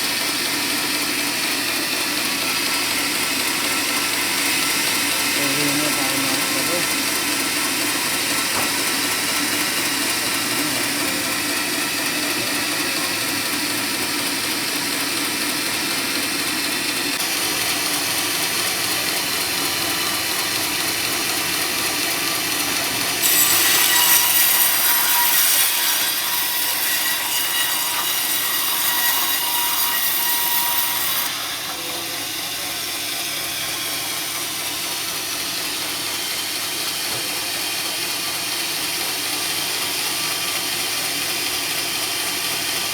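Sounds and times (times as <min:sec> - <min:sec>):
sawmill saw cutting log: 0:00.0 - 0:42.9.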